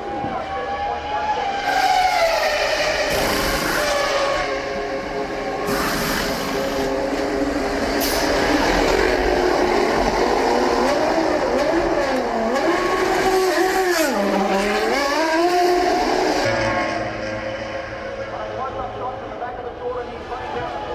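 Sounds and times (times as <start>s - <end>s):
racing car engine at high revs: 0.2s - 20.8s.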